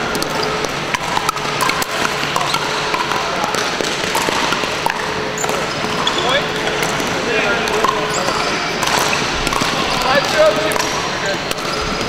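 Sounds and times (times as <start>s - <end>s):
paddles striking plastic balls: 0.0s - 12.0s
sports hall background noise: 0.0s - 12.0s.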